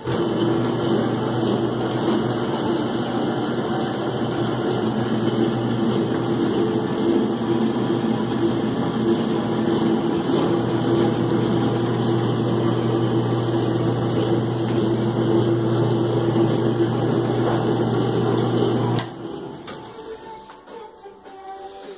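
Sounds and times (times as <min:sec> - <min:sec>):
etching press motor hum: 0:00.0 - 0:19.9.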